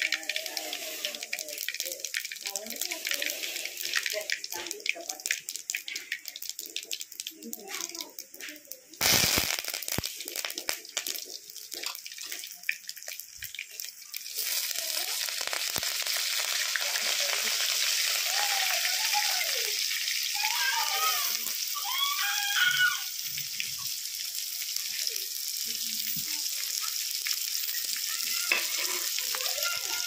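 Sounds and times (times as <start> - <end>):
spices sizzling in hot oil: 0.0 - 30.0.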